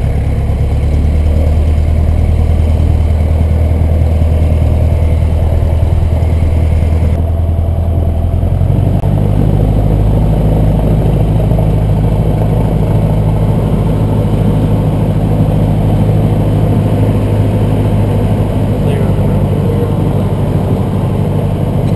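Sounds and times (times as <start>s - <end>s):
light aircraft engine and propeller: 0.0s - 21.9s.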